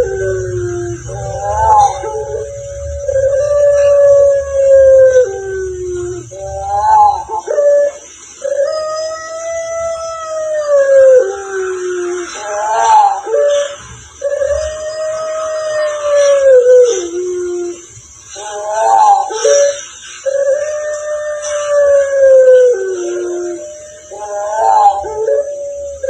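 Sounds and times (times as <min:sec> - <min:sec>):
animal howling calls: 0:00.0 - 0:26.0.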